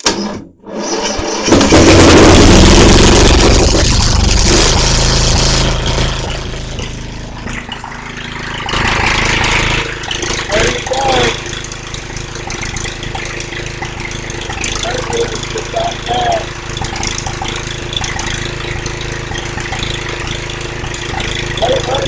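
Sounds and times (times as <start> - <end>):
lawn mower engine cranking and running: 0.0 - 22.0.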